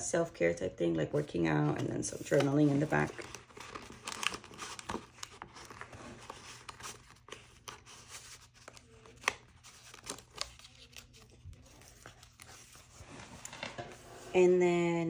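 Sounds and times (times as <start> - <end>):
paper rustling: 1.6 - 14.4.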